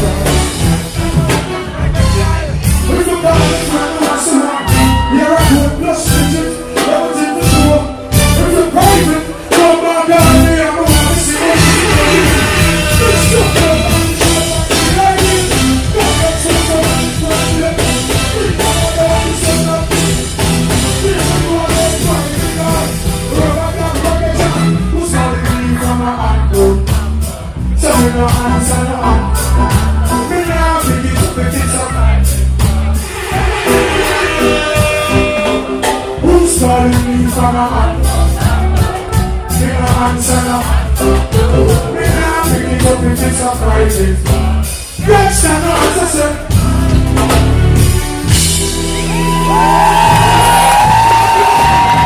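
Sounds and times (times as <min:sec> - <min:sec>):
live reggae music over loudspeakers: 0:00.0 - 0:52.0.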